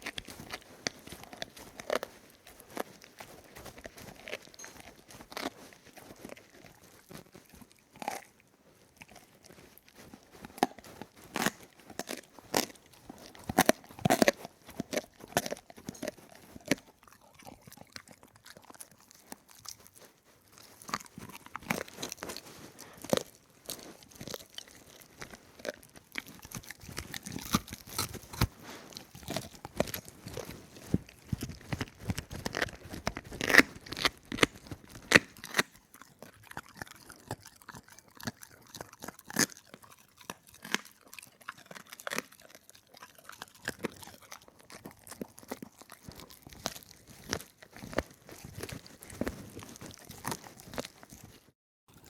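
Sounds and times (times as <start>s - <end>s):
crunchy food being chewed: 0.0s - 52.0s.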